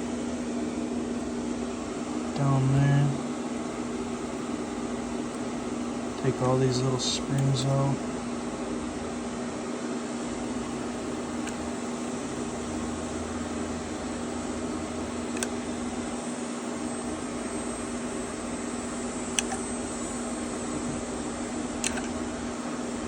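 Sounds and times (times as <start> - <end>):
fan humming: 0.0 - 23.0.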